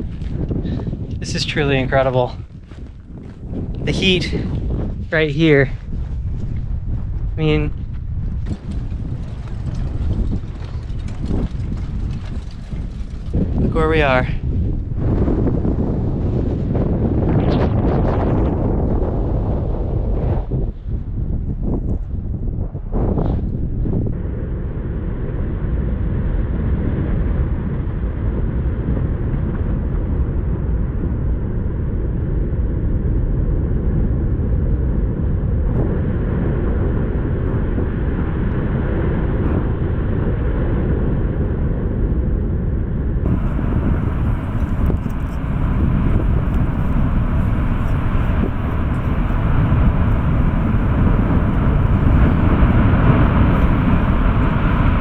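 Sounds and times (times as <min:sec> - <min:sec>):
lava fountains rushing: 0:00.0 - 0:21.6, 0:22.2 - 0:41.4, 0:43.2 - 0:55.0
wind on microphone: 0:00.0 - 0:55.0.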